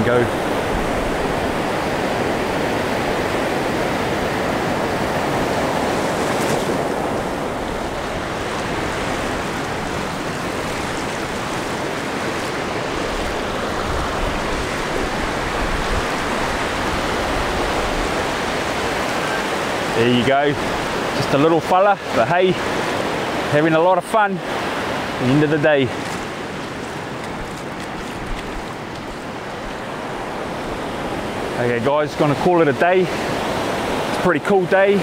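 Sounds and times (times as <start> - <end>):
surf washing over sand: 0.0 - 35.0.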